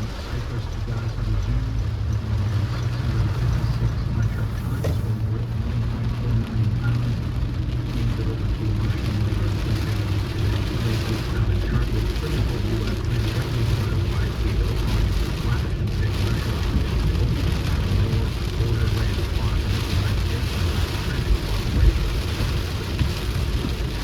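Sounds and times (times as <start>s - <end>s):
rain hiss: 0.0s - 24.0s
road and engine rumble: 0.0s - 24.0s.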